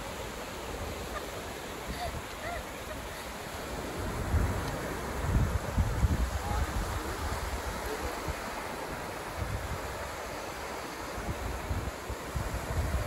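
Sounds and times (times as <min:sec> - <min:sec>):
waves breaking on a beach: 0:00.0 - 0:13.0
wind buffeting microphone: 0:00.6 - 0:13.0.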